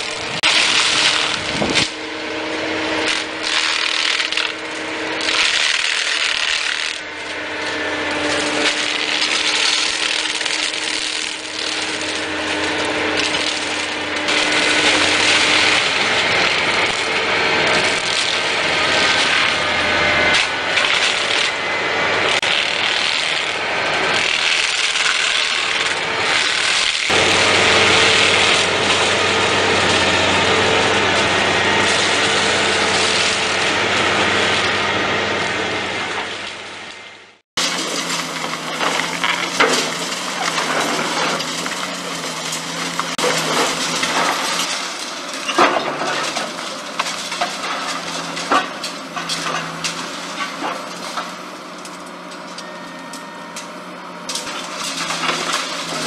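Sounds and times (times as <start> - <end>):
diesel engine running under load: 0.0 - 56.0
branches cracking and splintering: 3.0 - 21.6, 22.2 - 34.0, 37.6 - 52.1, 54.3 - 56.0.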